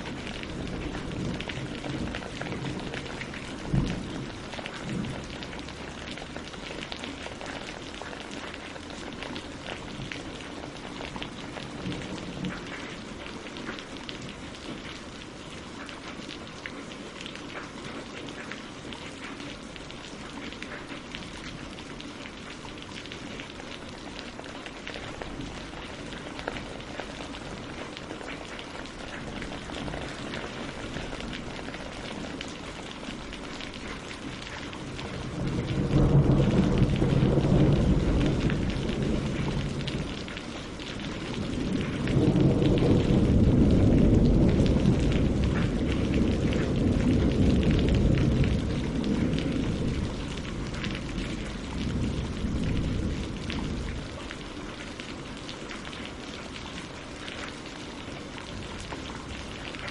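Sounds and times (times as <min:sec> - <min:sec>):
rain on leaves and water: 0:00.0 - 0:59.9.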